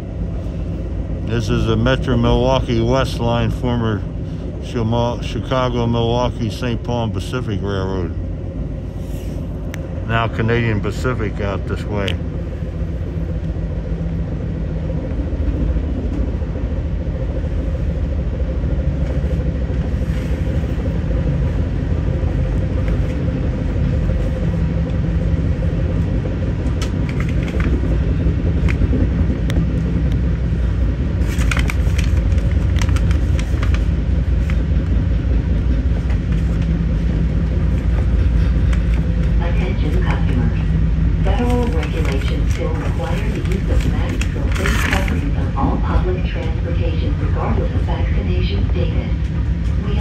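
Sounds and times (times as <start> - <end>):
constant hum: 0.0 - 50.0
train wheels rumbling on rails: 0.0 - 50.0.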